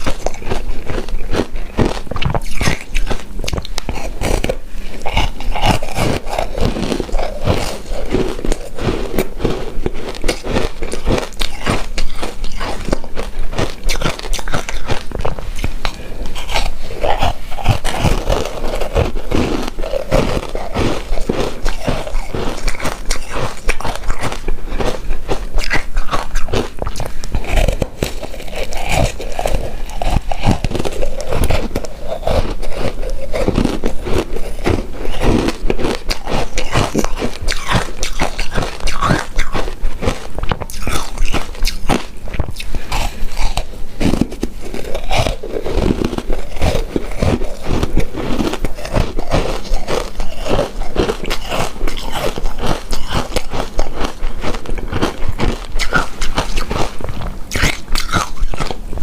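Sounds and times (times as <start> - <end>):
mouth chewing and smacking: 0.0 - 59.0.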